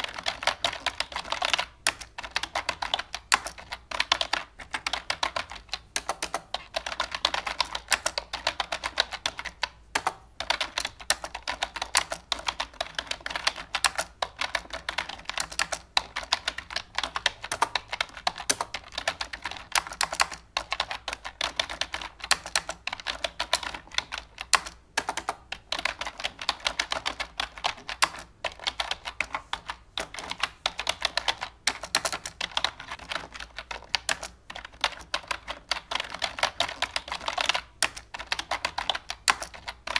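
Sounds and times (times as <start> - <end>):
rapid keyboard clicking: 0.0 - 39.9.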